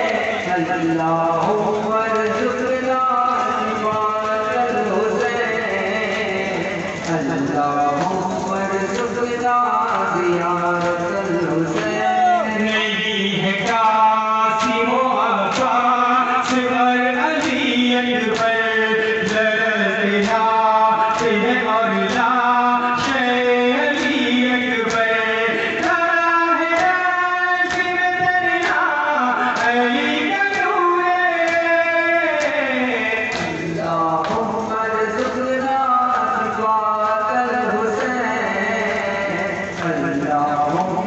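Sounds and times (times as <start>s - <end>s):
men chanting a lament: 0.0s - 41.0s.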